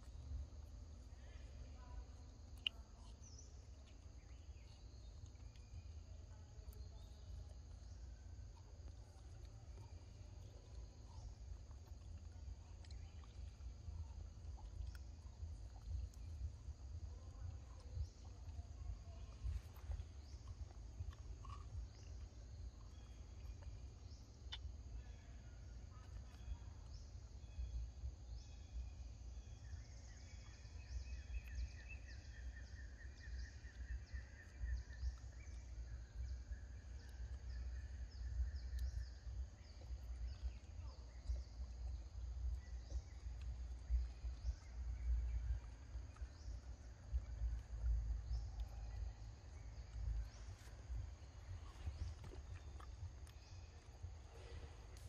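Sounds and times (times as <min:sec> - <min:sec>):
low uneven rumble: 0:00.0 - 0:55.0.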